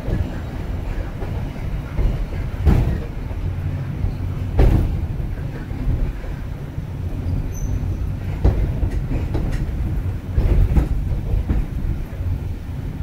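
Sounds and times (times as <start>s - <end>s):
funicular car rumbling on rails: 0.0s - 13.0s.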